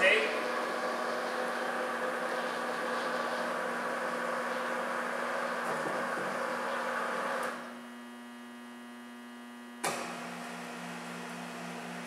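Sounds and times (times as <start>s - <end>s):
electric lift motors running: 0.0s - 7.9s, 9.8s - 12.0s
steady electrical hum: 0.0s - 12.0s.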